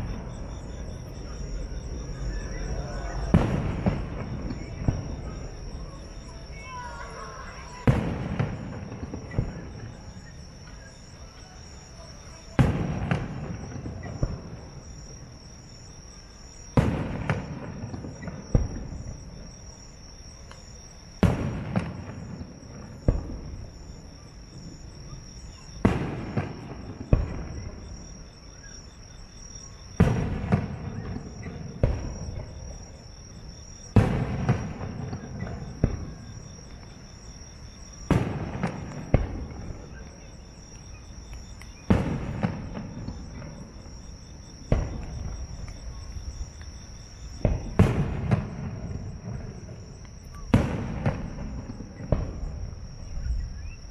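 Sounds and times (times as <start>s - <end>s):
high insect trill: 0.0s - 53.9s.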